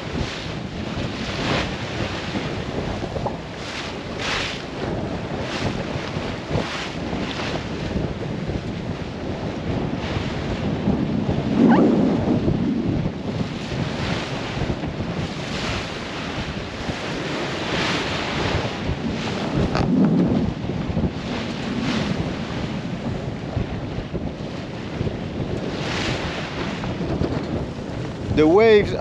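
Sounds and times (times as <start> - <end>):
waves splashing against hull: 0.0 - 29.0
wind buffeting microphone: 0.0 - 29.0.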